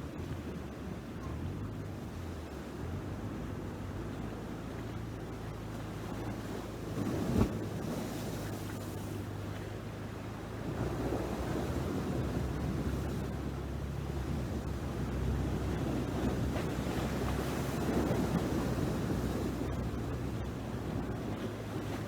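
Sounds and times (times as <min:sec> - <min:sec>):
surf washing on shore: 0:00.0 - 0:22.0
wind buffeting microphone: 0:00.0 - 0:22.0.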